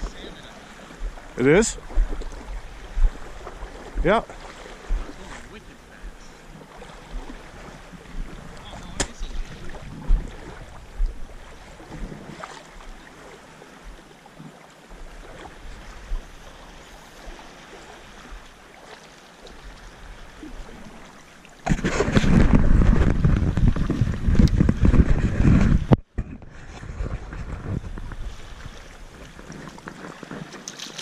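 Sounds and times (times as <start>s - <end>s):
wind and handling noise on microphone: 0.0s - 13.1s, 13.8s - 31.0s
lake water lapping: 0.0s - 31.0s
light wind: 0.0s - 31.0s.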